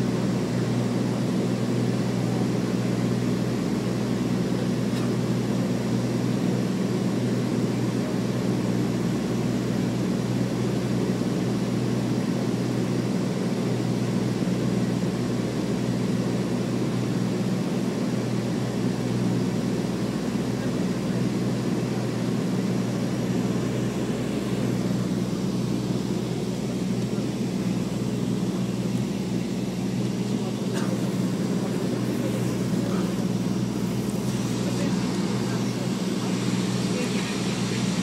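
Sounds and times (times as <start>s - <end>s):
propeller engines droning: 0.0s - 38.0s.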